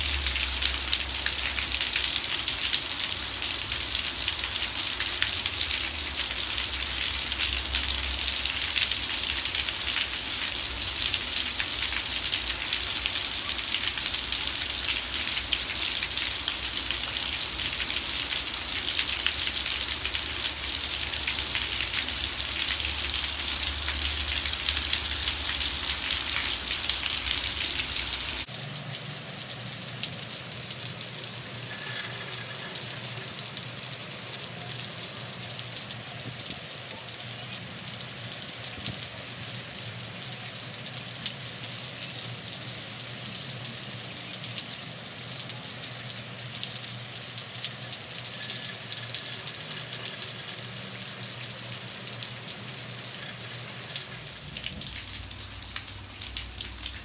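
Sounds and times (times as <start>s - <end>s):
heavy rain on water and pavement: 0.0s - 57.0s.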